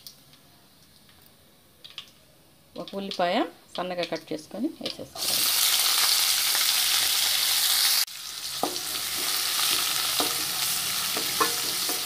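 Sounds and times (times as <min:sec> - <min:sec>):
onion frying in hot oil: 0:01.8 - 0:12.0.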